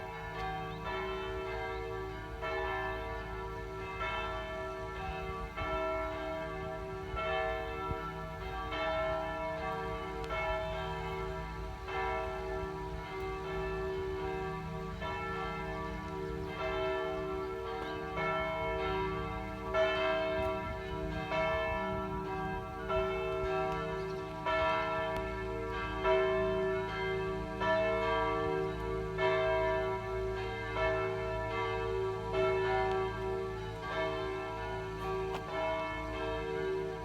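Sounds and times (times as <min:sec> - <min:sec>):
church bells ringing: 0:00.0 - 0:37.0.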